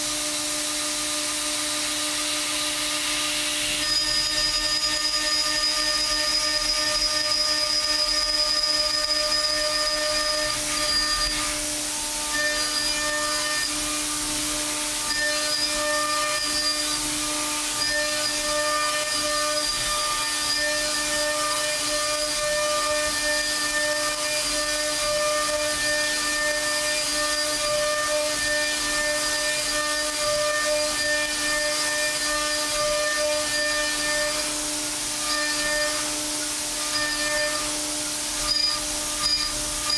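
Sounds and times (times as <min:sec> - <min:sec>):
milling spindle whine: 0:03.6 - 0:13.9, 0:14.8 - 0:34.5, 0:35.2 - 0:39.9.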